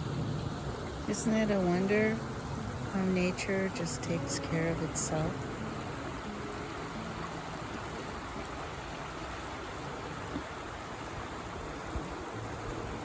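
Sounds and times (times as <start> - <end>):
water flowing over rocks: 0.0 - 13.0.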